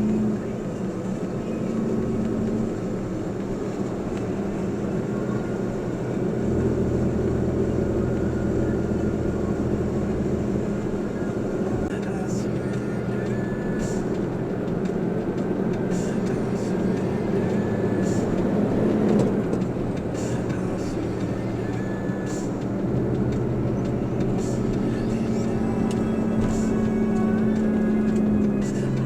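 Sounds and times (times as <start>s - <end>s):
vehicle engine hum and road noise: 0.0s - 29.0s.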